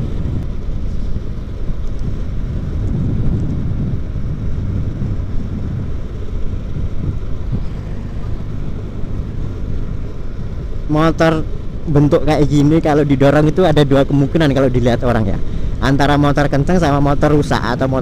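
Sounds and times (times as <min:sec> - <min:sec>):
tyres rolling on asphalt: 0:00.0 - 0:18.0
wind over microphone: 0:00.0 - 0:18.0.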